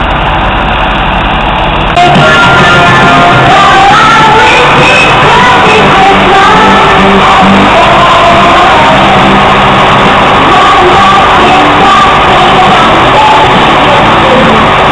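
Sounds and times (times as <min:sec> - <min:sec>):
loud music with singing: 0:01.9 - 0:14.9.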